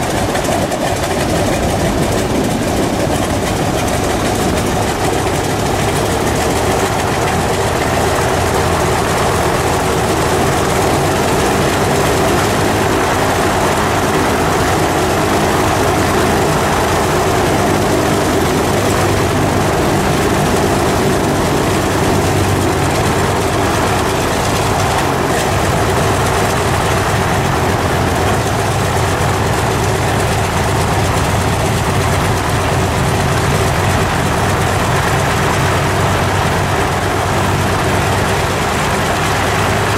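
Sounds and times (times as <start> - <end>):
propeller aircraft engine idling: 0.0 - 39.9.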